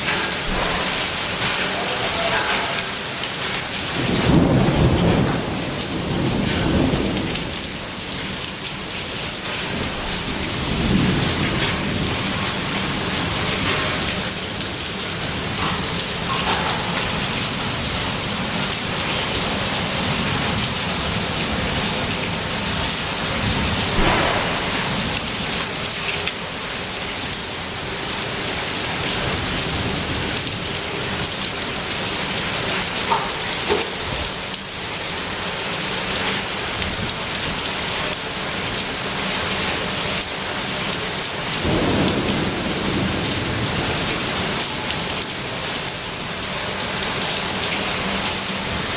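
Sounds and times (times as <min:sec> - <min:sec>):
hail and rain pelting down: 0:00.0 - 0:48.9.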